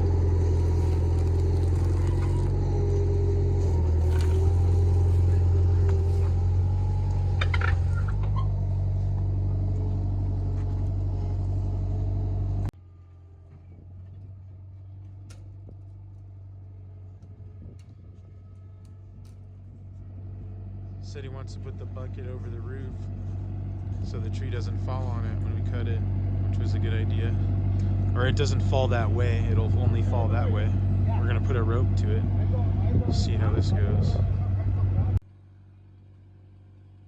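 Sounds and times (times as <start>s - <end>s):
engine running with low hum: 0.0s - 37.0s.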